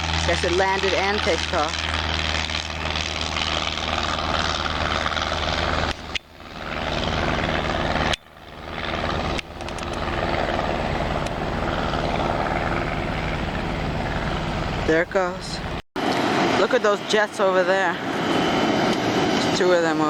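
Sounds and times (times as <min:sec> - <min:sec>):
airplane engine droning: 0:00.0 - 0:20.0.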